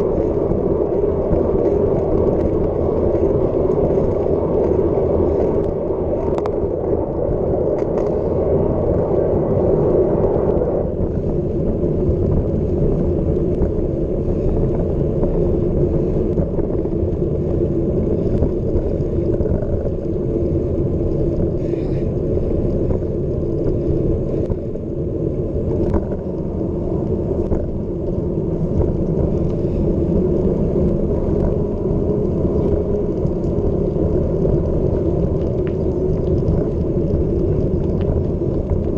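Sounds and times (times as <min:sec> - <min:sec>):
bike clicks and rattles: 0:00.0 - 0:38.9
tyre noise on trail: 0:00.0 - 0:38.9
wind rushing over microphone: 0:00.0 - 0:38.9.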